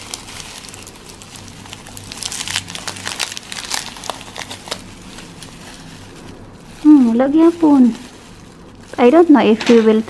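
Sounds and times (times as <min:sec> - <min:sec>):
foil and plastic crinkling: 0:00.0 - 0:10.0.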